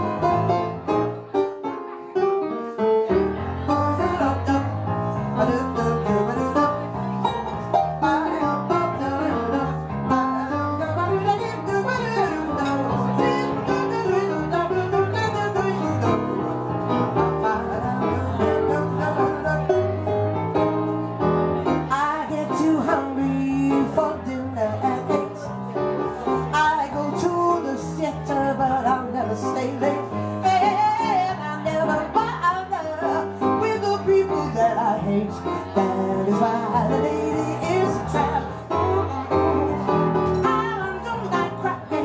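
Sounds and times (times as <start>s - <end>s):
jazz piano: 0.0s - 42.0s
plucked bass line: 3.2s - 42.0s.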